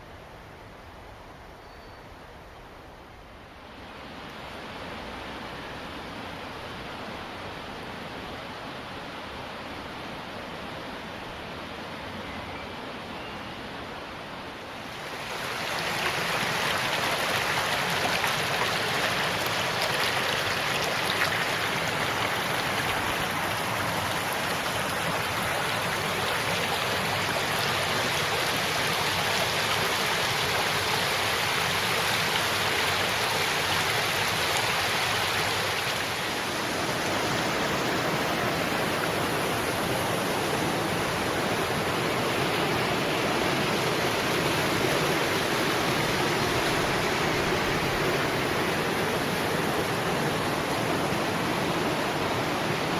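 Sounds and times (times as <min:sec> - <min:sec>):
stream water rushing: 0:02.8 - 0:52.9.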